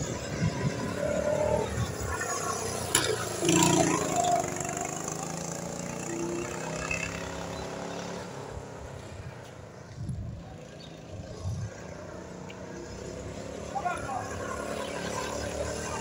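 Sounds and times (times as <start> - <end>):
go-kart engines running: 0.0 - 16.0.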